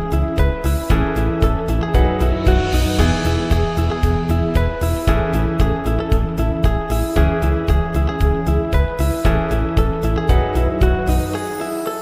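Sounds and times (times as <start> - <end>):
steady beat: 0.0 - 11.2
melody notes: 0.0 - 12.0.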